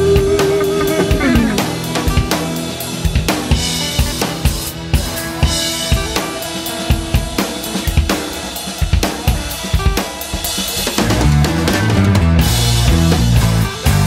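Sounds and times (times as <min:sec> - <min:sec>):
bass and guitar: 0:00.0 - 0:14.0
drum kit beat: 0:00.0 - 0:14.0.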